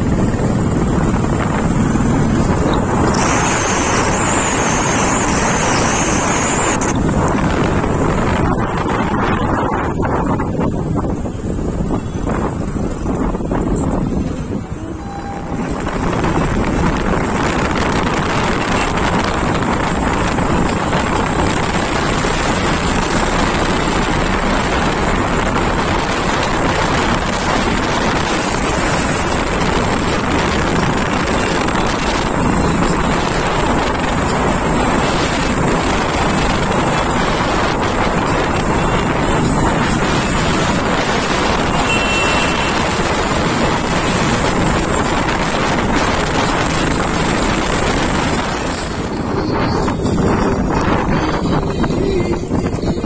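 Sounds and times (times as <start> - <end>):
motorcycle engine: 0.0 - 53.0
wind buffeting microphone: 0.0 - 53.0.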